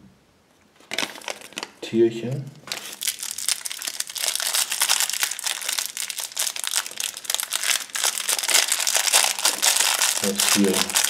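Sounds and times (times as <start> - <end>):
plastic bag crinkling: 0.8 - 1.8, 2.6 - 11.0.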